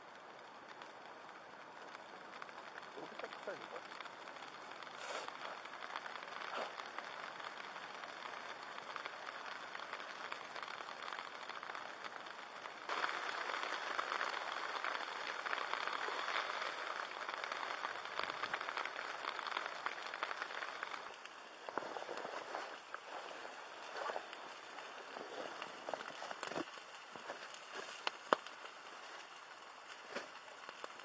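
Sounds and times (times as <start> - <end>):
meat sizzling in hot fat: 2.2 - 31.0.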